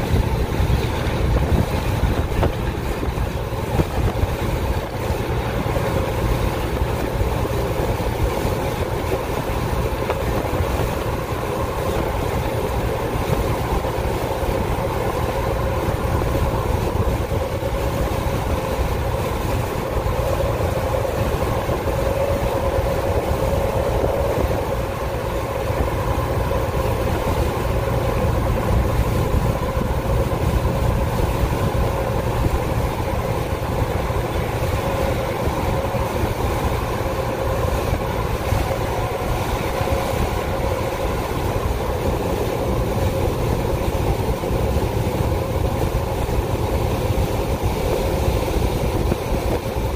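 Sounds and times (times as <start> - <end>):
steady whine: 0.0 - 49.9
train wheels rumbling on rail: 0.0 - 49.9.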